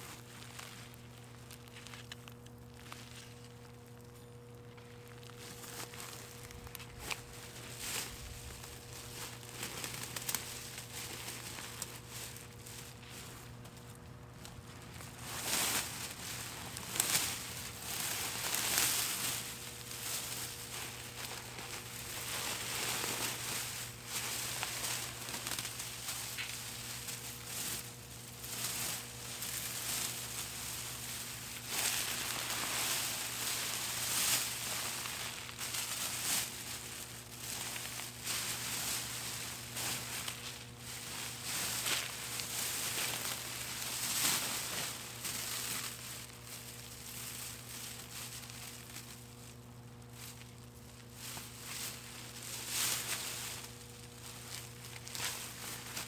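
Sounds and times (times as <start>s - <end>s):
faint low hum: 0.0s - 56.0s
hands rustling through soil: 0.0s - 56.0s.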